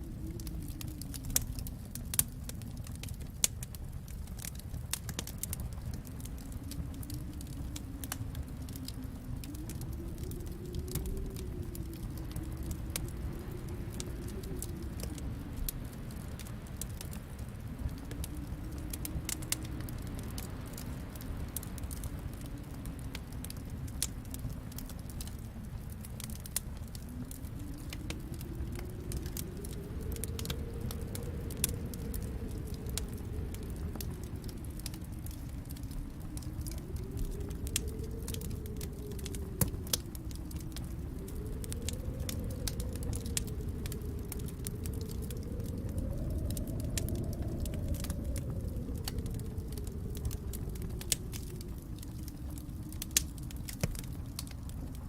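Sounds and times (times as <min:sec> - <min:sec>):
howling wind: 0:00.0 - 0:55.0
low rumble: 0:00.0 - 0:55.0
wood fire crackling and popping: 0:00.0 - 0:55.0.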